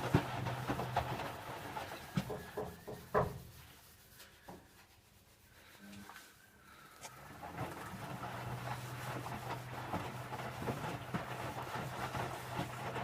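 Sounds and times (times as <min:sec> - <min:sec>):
faint knocks and rubs: 0:00.0 - 0:06.4, 0:07.0 - 0:13.0.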